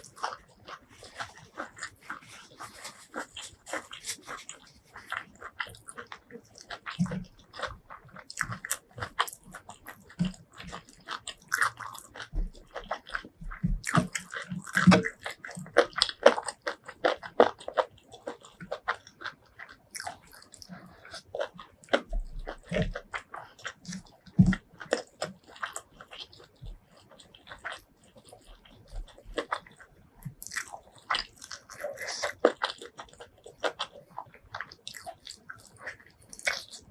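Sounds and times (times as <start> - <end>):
chewing and biting food: 0.0 - 36.9.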